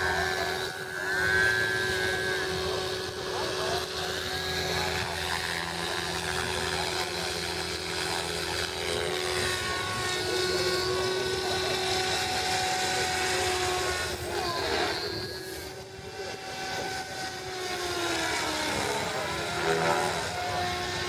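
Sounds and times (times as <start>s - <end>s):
model helicopter whine: 0.0s - 21.0s.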